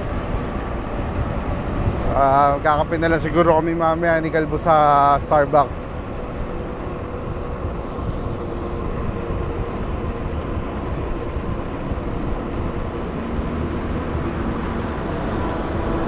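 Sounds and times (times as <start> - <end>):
bike rolling on paved road: 0.0 - 16.0
wind rushing over microphone: 0.0 - 16.0.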